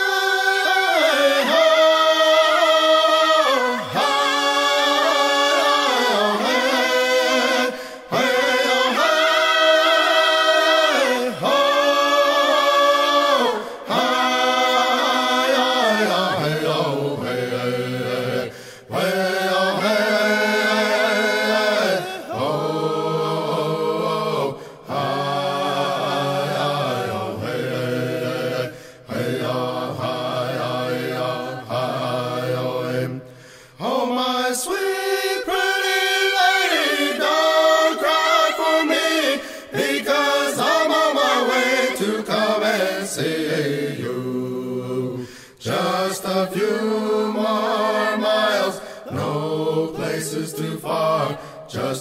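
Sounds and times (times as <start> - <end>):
voices chanting wordless notes: 0.0 - 52.0.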